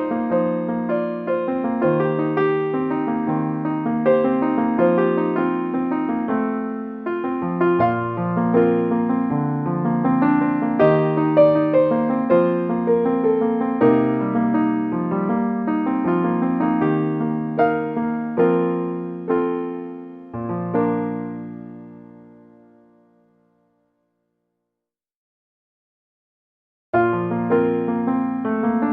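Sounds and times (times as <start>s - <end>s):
calm solo piano piece: 0.0s - 23.7s, 27.0s - 28.9s.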